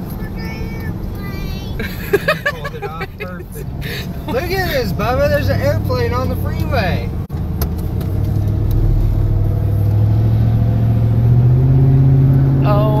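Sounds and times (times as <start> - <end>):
car engine accelerating: 0.0 - 13.0
road noise: 0.0 - 13.0.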